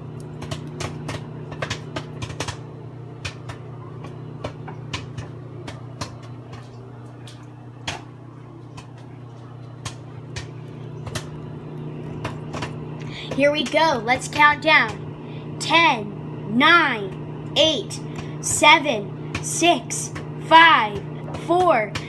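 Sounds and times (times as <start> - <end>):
popcorn popping: 0.0 - 15.8, 17.1 - 22.0
microwave oven hum: 0.0 - 22.0.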